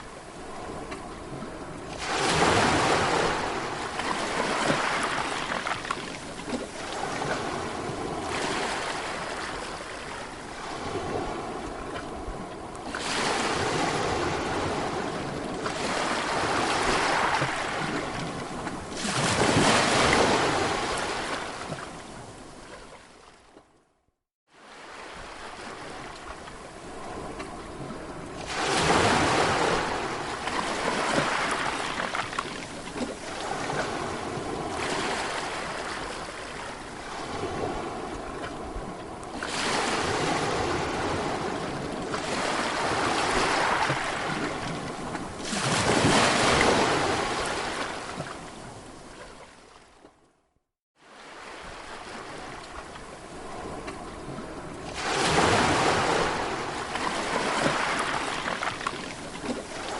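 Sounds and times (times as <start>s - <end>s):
sea waves breaking on shore: 0.0s - 23.7s, 24.5s - 50.2s, 51.0s - 59.9s.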